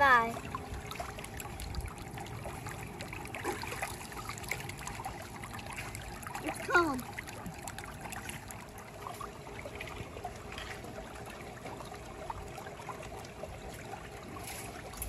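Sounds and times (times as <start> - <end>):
water trickling in a pool: 0.0 - 15.0.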